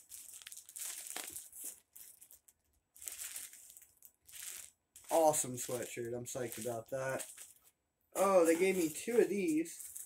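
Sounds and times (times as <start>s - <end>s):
packaging and clothing rustling: 0.0s - 10.0s.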